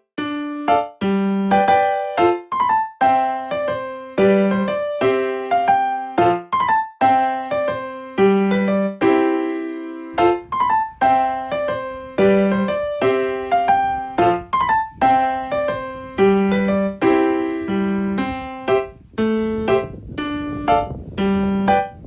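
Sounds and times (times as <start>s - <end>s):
piano-like keyboard music: 0.0s - 22.0s.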